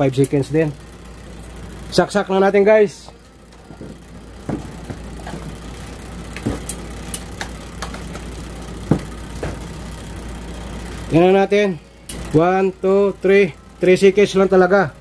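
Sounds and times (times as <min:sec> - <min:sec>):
washing machine timer hum: 0:00.0 - 0:15.0.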